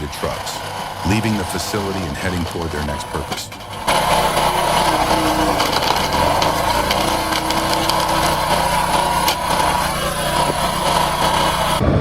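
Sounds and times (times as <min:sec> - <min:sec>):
rattling noise: 0:00.0 - 0:11.8
sharp clicks and knocks: 0:00.0 - 0:11.8
heavy machinery humming: 0:00.0 - 0:12.0.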